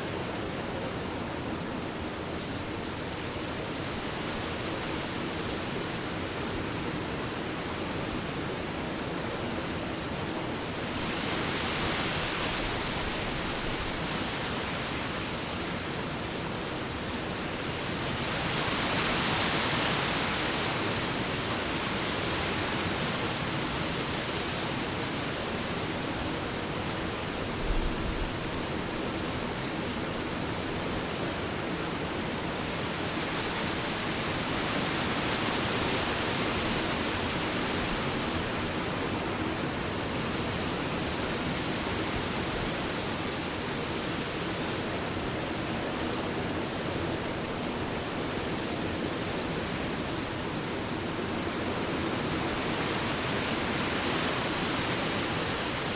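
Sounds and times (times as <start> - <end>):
ocean surf washing on beach: 0.0 - 55.9.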